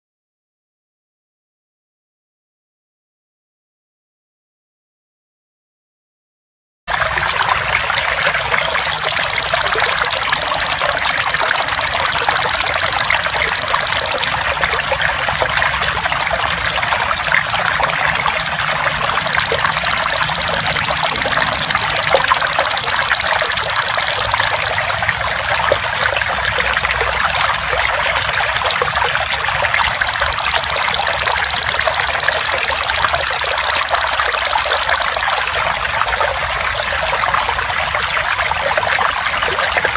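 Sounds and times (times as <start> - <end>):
trickling water: 6.9 - 39.9.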